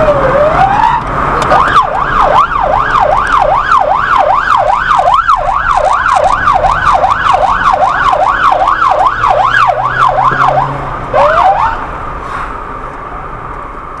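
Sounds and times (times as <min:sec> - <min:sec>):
emergency siren yelping: 0:00.0 - 0:11.8
vehicle noise: 0:00.0 - 0:14.0.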